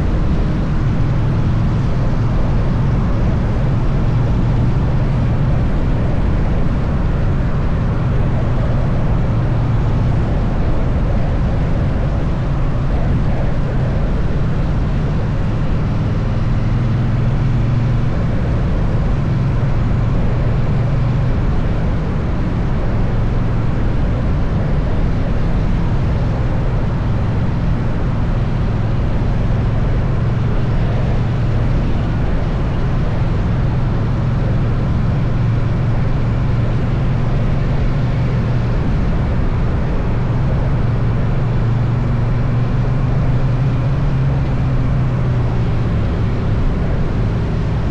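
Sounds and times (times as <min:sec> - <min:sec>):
motorcycle engine cruising drone: 0:00.0 - 0:47.9
wind and road noise: 0:00.0 - 0:47.9.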